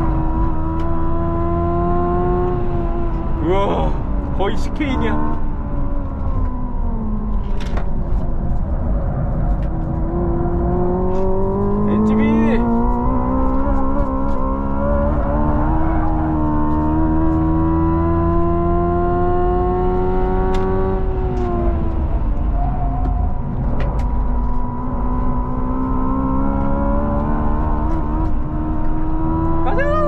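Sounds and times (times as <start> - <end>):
road and tyre rumble: 0.0 - 30.0.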